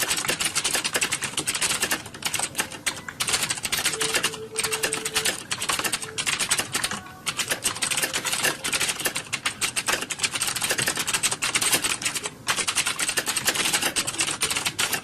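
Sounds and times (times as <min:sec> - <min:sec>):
fast typing on keyboard: 0:00.0 - 0:15.0.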